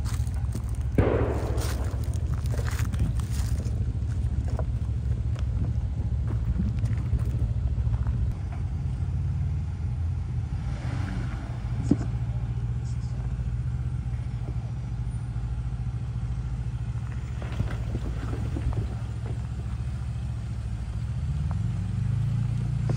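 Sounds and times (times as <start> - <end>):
car engine running at low revs: 0.0 - 22.9.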